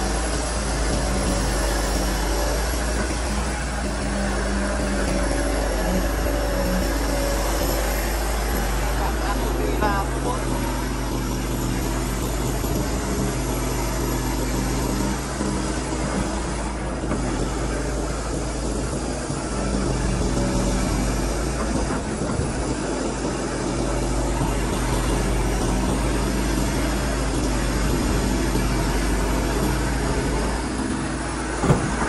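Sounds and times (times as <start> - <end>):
excavator diesel engine under load: 0.0 - 32.0.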